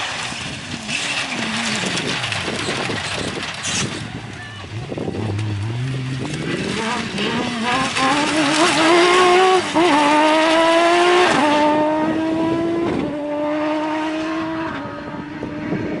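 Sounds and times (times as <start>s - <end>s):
buggy engine accelerating through gears: 0.0s - 16.0s.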